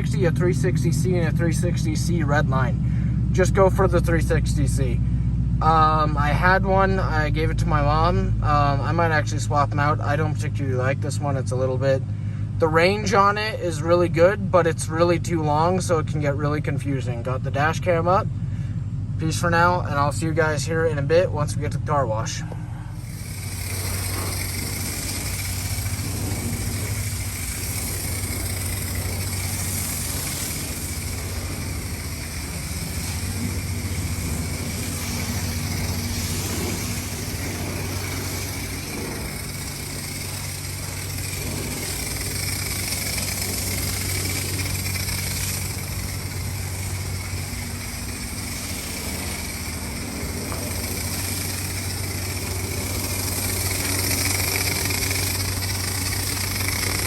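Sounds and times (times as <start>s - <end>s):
car engine running steadily: 0.0s - 57.0s.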